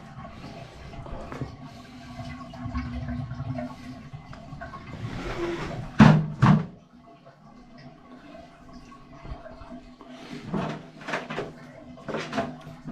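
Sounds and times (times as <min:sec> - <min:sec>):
water gurgling down a drain: 0:00.0 - 0:12.9.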